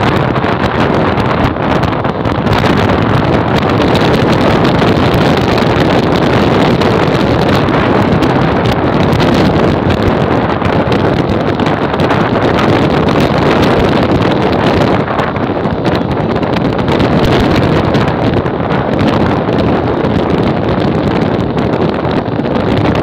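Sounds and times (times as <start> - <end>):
motorcycle engine: 0.0 - 23.0
road noise: 0.0 - 23.0
wind rushing on microphone: 0.0 - 23.0.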